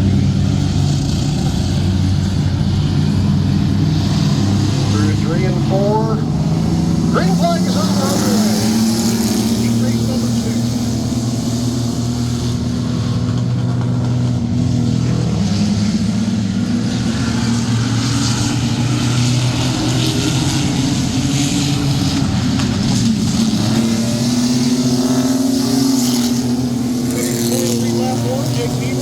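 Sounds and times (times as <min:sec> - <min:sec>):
racing truck engines revving: 0:00.0 - 0:29.0.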